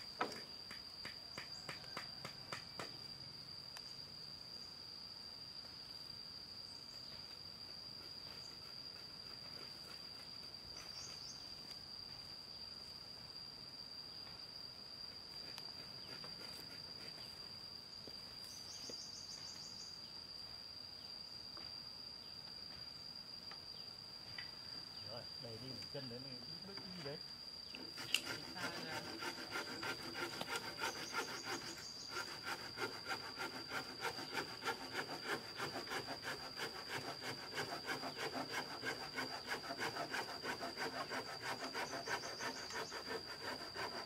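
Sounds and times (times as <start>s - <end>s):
insects droning whine: 0.0s - 44.0s.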